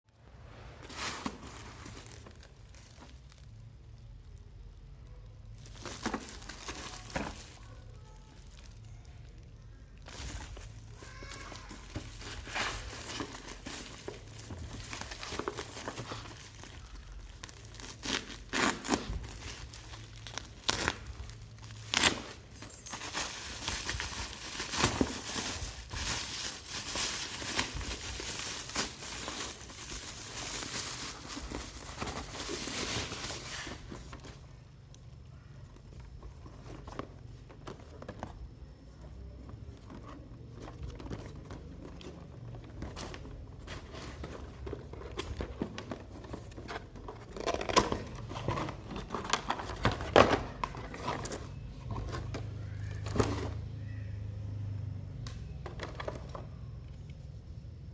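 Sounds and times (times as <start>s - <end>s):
wrapping crinkling and tearing: 0.8s - 38.5s, 39.6s - 54.0s.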